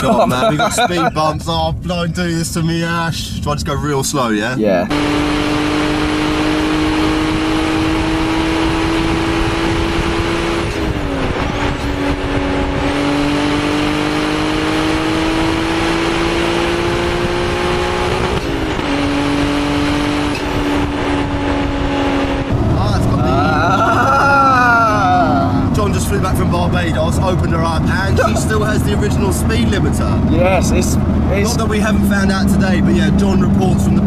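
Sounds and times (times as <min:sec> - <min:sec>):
road noise: 0:00.0 - 0:34.0
car engine accelerating: 0:04.9 - 0:34.0.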